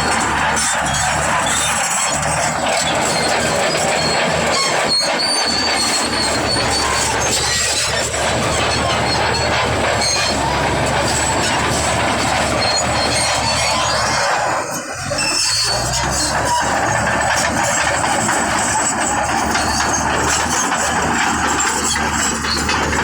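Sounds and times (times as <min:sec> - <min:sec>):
bulldozer engine drone: 0:00.0 - 0:23.0
steel tracks squealing and clattering: 0:00.0 - 0:23.0.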